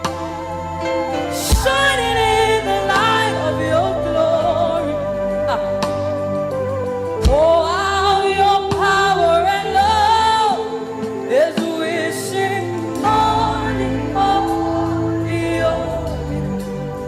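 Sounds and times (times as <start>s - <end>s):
gospel music accompaniment: 0.0s - 17.0s.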